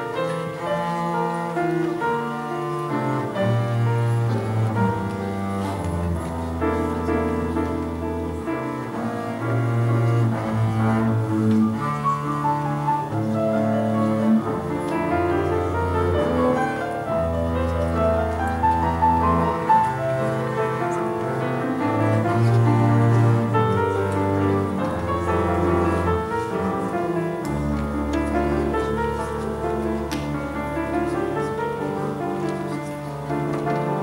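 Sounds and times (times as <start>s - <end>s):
bowed double bass notes: 0.0s - 34.0s
piano playing: 0.0s - 34.0s.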